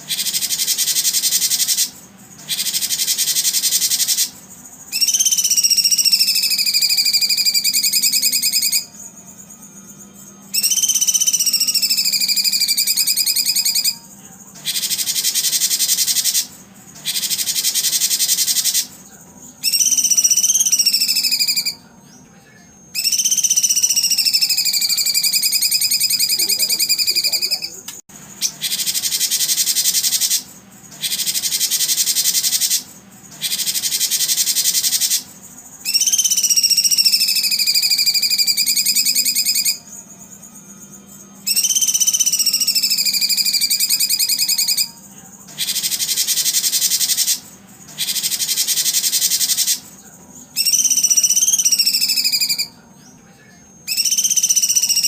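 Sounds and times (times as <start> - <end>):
long whistled call: 0.0 - 9.0, 10.5 - 19.0, 19.6 - 21.8, 22.9 - 27.8, 28.4 - 39.9, 41.4 - 45.0, 45.6 - 49.9, 50.6 - 52.8, 53.8 - 55.0
insects buzzing: 0.0 - 55.0.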